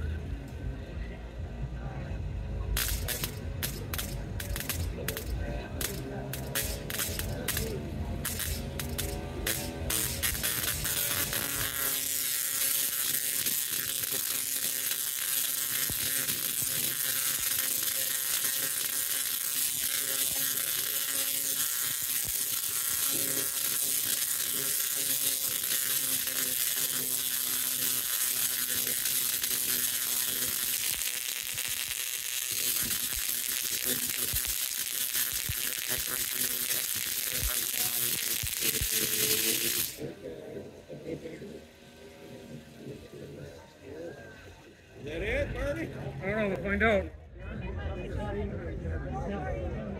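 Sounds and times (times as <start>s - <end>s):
electric arcs crackling: 2.6s - 43.2s.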